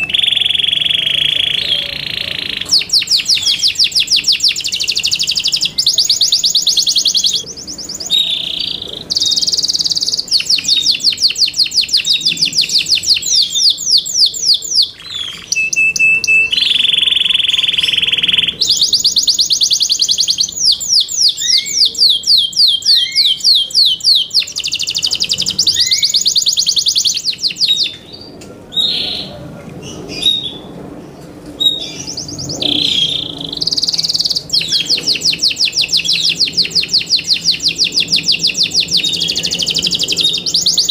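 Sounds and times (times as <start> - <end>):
canary singing trills: 0.0 - 30.8, 31.6 - 40.9.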